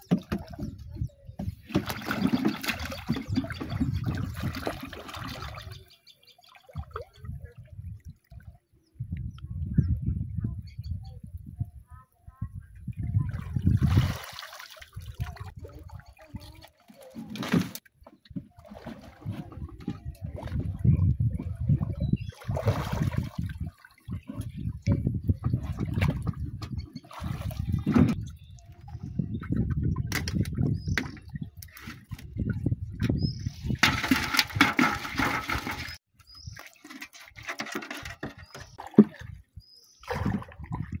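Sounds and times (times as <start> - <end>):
water splashing and sloshing: 0.0 - 8.8, 12.8 - 41.0.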